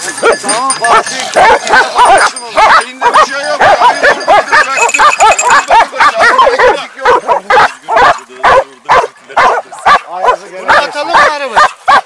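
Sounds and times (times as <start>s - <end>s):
hounds barking and baying: 0.0s - 12.0s.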